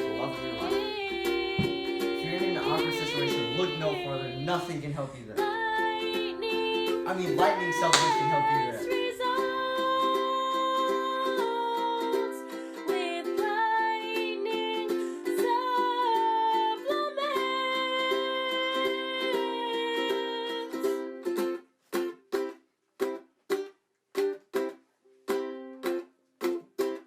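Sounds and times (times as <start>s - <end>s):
plucked ukulele strings: 0.0s - 24.7s, 25.3s - 27.0s.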